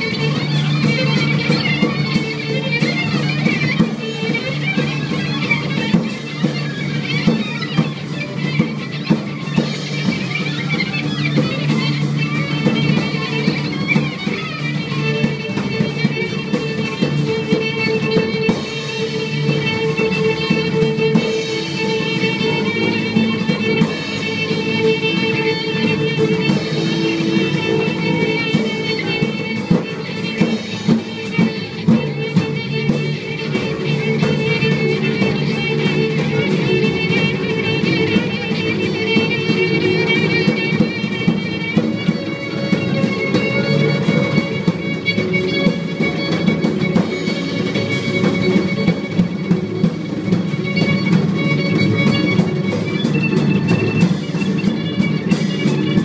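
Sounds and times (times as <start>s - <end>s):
held string tones: 0.0s - 56.0s.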